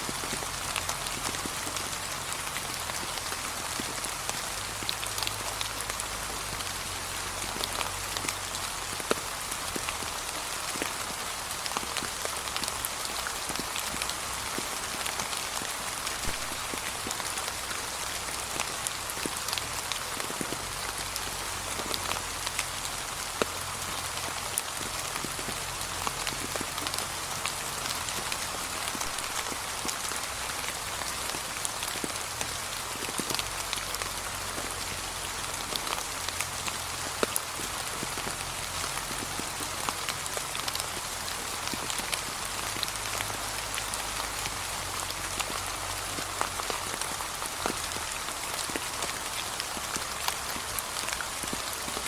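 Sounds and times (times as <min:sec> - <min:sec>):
light rain on fallen leaves: 0:00.0 - 0:52.0.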